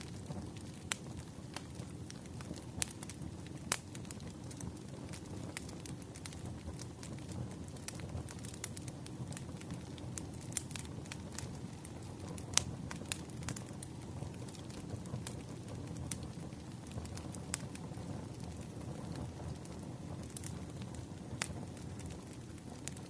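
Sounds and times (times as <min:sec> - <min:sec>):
low fire rumble: 0:00.0 - 0:23.0
wood fire crackling and popping: 0:00.0 - 0:23.0.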